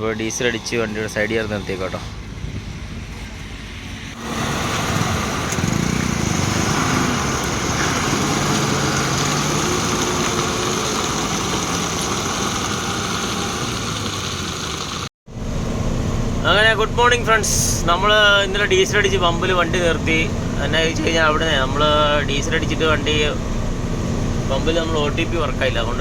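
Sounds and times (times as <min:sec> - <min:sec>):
vehicle engine running: 0:02.1 - 0:26.0.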